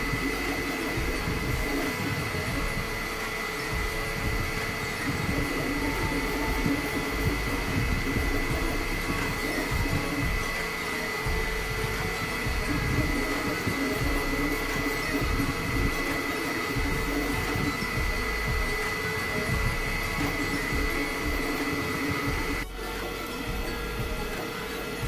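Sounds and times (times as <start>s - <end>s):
cooling fans whirring: 0.0s - 25.0s
high whine: 0.0s - 25.0s
stepper motors buzzing: 0.0s - 25.0s.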